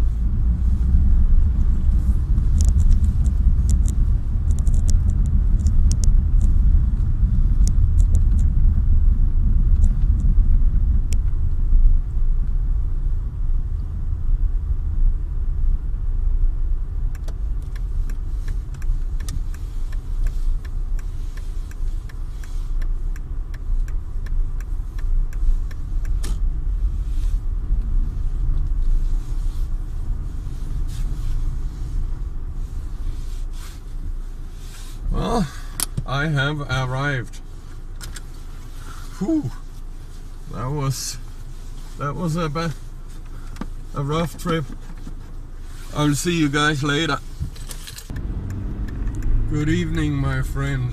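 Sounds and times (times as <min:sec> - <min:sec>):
vehicle driving on slushy road: 0:00.0 - 0:50.9.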